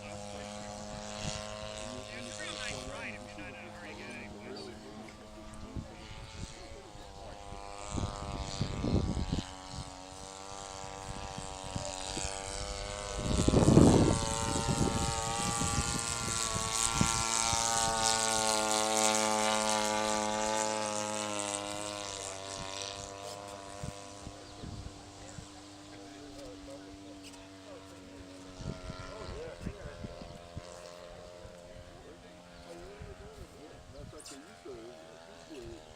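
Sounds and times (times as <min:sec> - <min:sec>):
wind buffeting microphone: 0:00.0 - 0:03.3, 0:04.2 - 0:26.3, 0:28.4 - 0:32.0
model airplane engine: 0:00.0 - 0:35.9.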